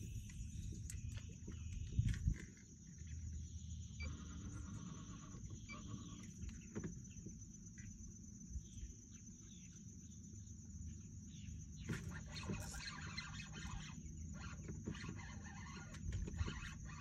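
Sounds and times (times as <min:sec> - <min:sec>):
low steady rumble: 0:00.0 - 0:14.6
faint bird chirps: 0:00.0 - 0:17.0.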